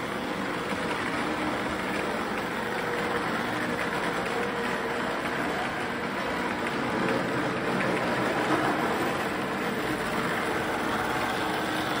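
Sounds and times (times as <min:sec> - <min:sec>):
model train motor whir: 0:00.0 - 0:12.0
wheels rattling on rails: 0:00.0 - 0:12.0.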